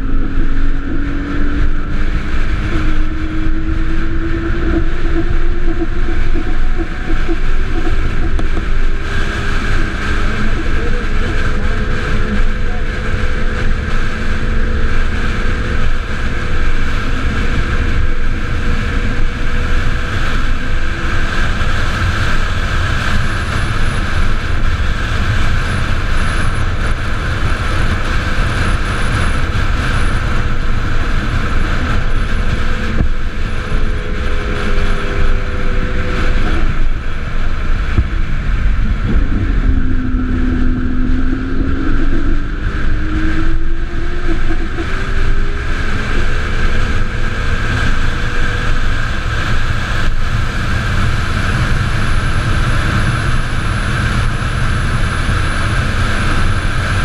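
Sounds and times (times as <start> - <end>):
faint gliding whine: 0.0 - 57.0
road rumble: 0.0 - 57.0
wind noise on microphone: 0.0 - 57.0.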